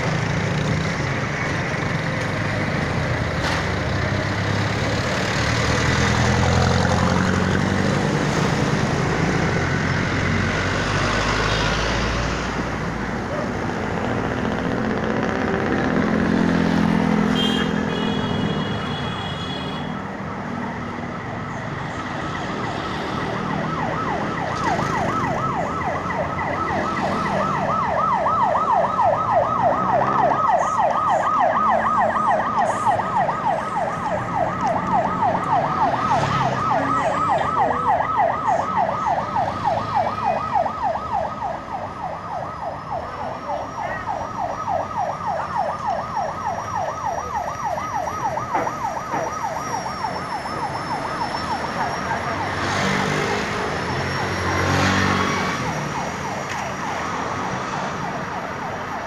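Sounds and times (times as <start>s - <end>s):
city road traffic: 0.0s - 59.0s
emergency siren yelping: 1.6s - 59.0s.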